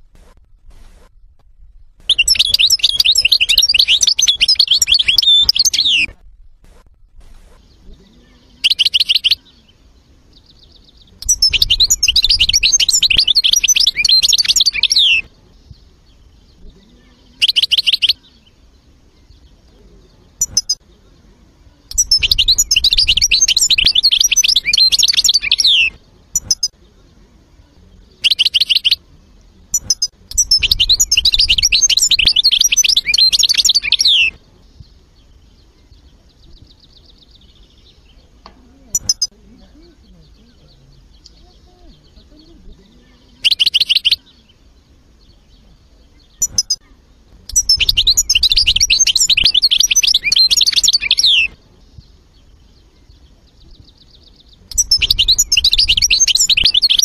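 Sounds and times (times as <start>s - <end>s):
goldfinch twittering song: 2.0s - 6.1s, 7.3s - 21.2s, 21.8s - 26.8s, 29.7s - 57.0s.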